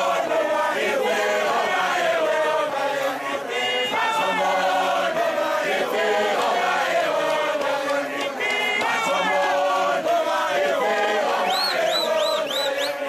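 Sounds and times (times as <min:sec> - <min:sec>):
men singing in harmony: 0:00.0 - 0:13.0.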